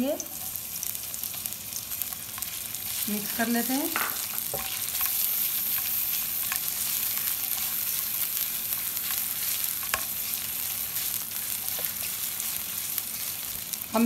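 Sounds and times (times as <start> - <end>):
aromatics sizzling in hot oil: 0.0 - 14.0.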